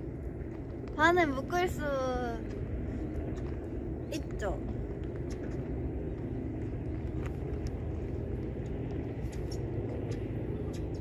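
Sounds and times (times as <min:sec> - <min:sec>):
engine running: 0:00.0 - 0:11.0
faint hum: 0:00.0 - 0:11.0.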